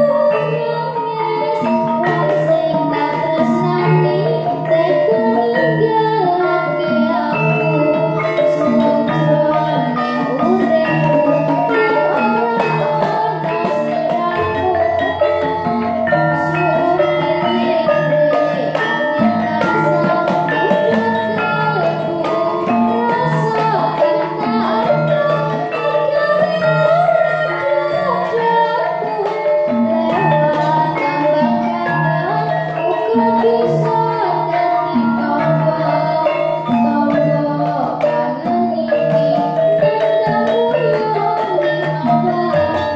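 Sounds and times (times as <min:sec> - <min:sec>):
gamelan ensemble playing: 0:00.0 - 0:42.9
girl singing into microphone: 0:00.0 - 0:42.9.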